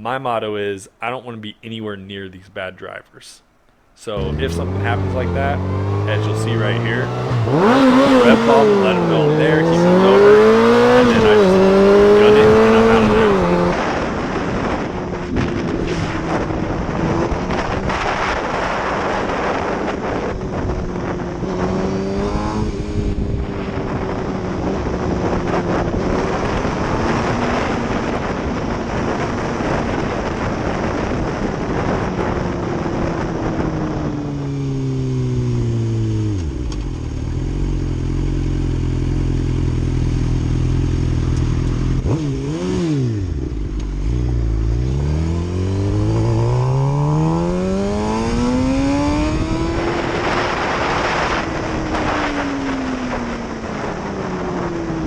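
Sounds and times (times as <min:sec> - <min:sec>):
motorcycle engine: 0:03.5 - 0:14.0, 0:16.0 - 0:55.0.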